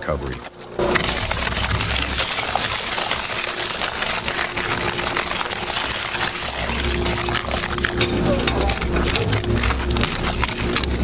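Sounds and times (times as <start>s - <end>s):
material cracking: 0.3s - 11.0s
industrial shredder grinding: 0.5s - 11.0s.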